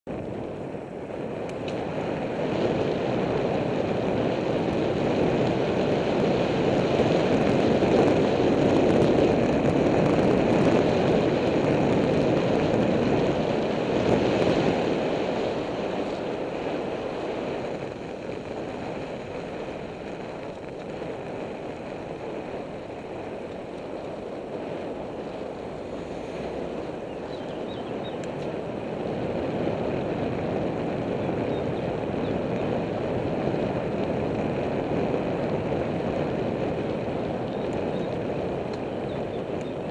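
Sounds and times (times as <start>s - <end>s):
bicycle road noise: 0.0s - 39.9s
wind rushing over microphone: 0.0s - 39.9s.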